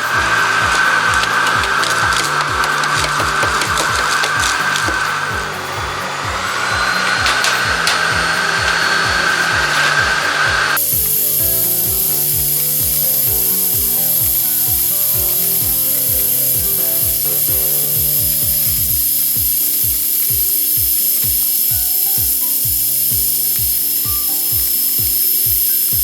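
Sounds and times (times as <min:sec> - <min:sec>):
electronic kick-drum beat: 0:00.0 - 0:26.0.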